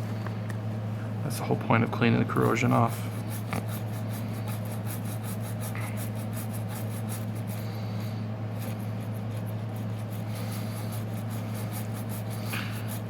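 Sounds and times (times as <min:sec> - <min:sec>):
steady low hum: 0:00.0 - 0:13.0
toothbrush scrubbing: 0:02.4 - 0:13.0.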